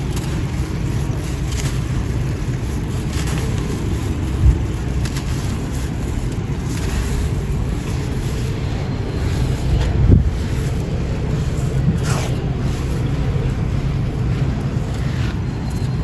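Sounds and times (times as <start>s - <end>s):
faint crackles: 0.0s - 16.0s
steady low rumble: 0.0s - 16.0s.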